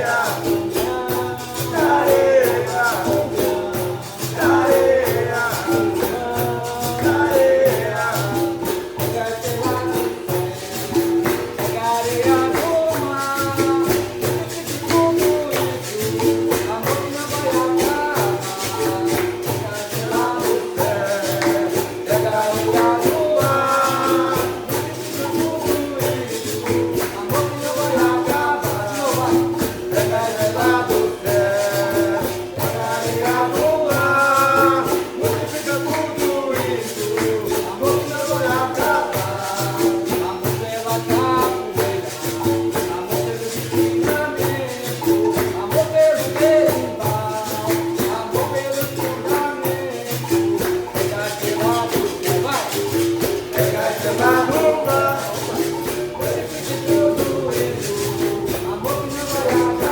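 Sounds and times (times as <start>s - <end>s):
call-and-response group singing: 0.0s - 59.9s
shaker rattle: 0.0s - 59.9s
tambourine beat: 0.0s - 59.9s.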